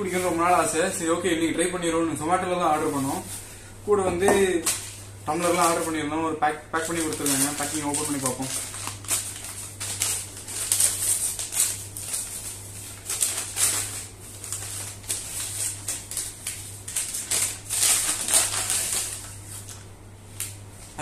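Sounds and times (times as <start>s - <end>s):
paper bag crinkling and rustling: 0.0s - 3.4s, 4.3s - 6.1s, 6.7s - 21.0s.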